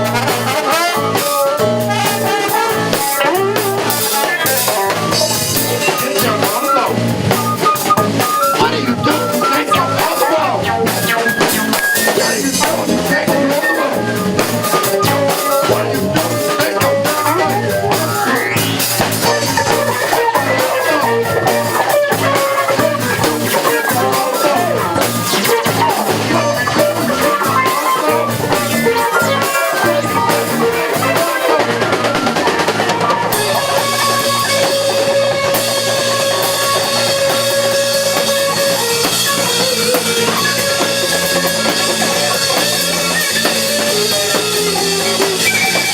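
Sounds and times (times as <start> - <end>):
drum kit: 0.0 - 45.9
electric guitar: 0.0 - 45.9.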